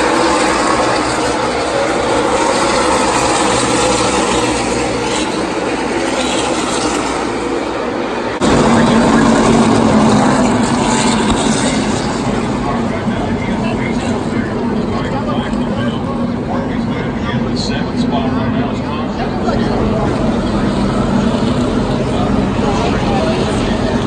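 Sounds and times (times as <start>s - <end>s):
race car engines roaring: 0.0s - 24.0s.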